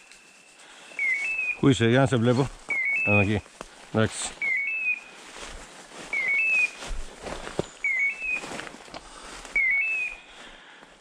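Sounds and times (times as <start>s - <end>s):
dry leaves rustling underfoot: 0.0s - 10.5s.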